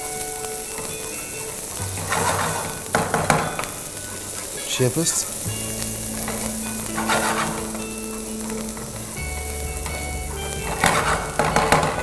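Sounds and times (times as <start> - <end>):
onion sizzling in a frying pan: 0.0 - 12.0.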